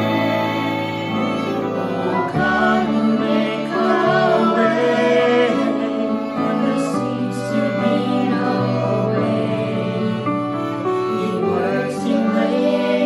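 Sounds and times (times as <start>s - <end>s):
family singing a hymn: 0.0s - 13.0s
violins: 0.0s - 13.0s.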